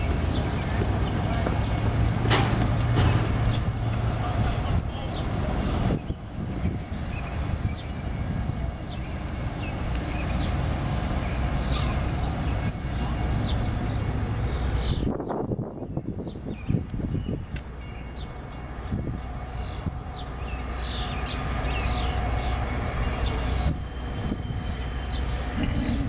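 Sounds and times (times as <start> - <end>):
diesel locomotive engine rumble: 0.0 - 26.0
pulsing insect chirp: 0.0 - 26.0.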